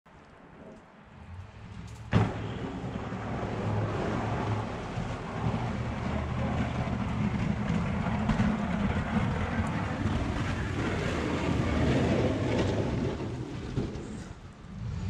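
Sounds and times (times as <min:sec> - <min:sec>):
pickup engine rumble: 0:01.1 - 0:15.0
plow blade scraping snow: 0:01.3 - 0:15.0.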